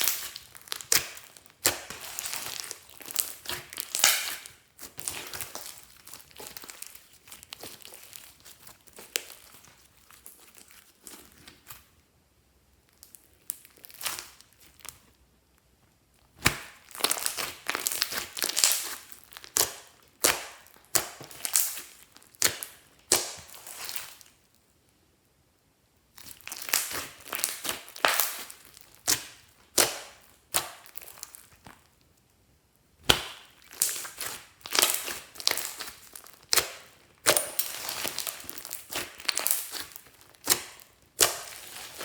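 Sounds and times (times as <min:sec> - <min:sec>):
slime crackling and popping: 0:00.0 - 0:11.8, 0:12.9 - 0:15.1, 0:16.2 - 0:24.5, 0:26.1 - 0:32.2, 0:33.0 - 0:42.0.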